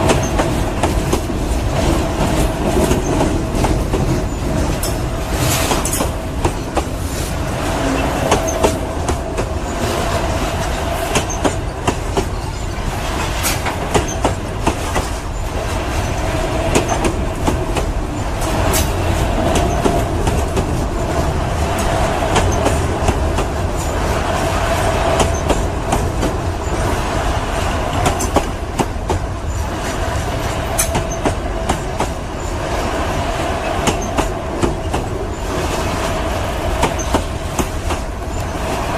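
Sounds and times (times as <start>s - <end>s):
freight train rumbling: 0.0s - 38.9s
wheels clicking over rail joints: 0.0s - 38.9s.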